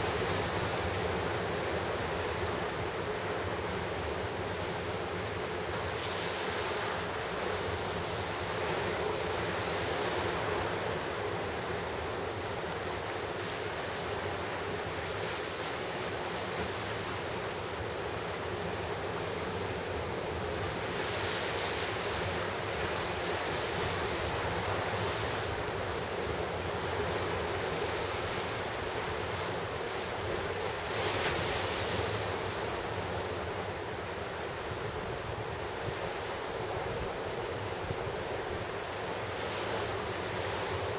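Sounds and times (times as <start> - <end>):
surf washing onto shore: 0.0 - 40.9.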